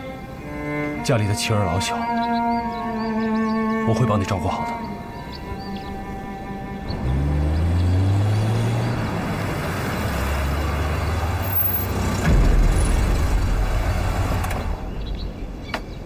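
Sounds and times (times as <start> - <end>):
army truck engine rumbling: 0.0 - 16.0.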